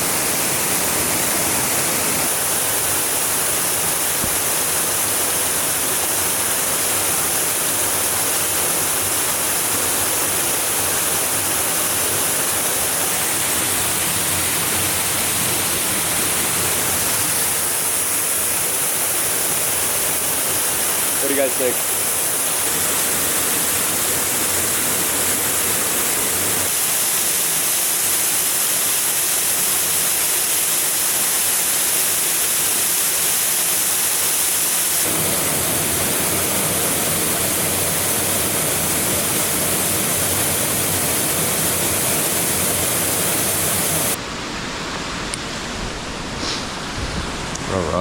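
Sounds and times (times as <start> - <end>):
waterfall rushing: 0.0 - 47.5.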